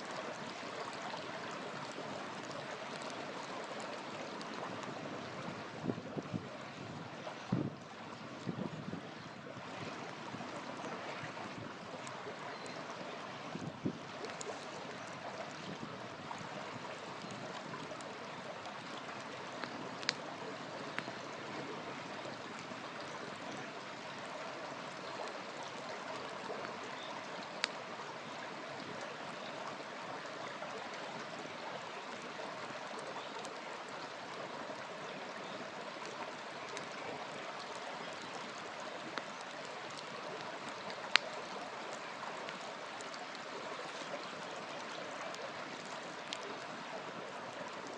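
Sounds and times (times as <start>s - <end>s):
wood fire crackling: 0.0s - 6.8s, 10.9s - 23.4s, 24.1s - 27.9s, 32.0s - 47.9s
river water rushing: 0.0s - 8.7s, 9.4s - 47.9s.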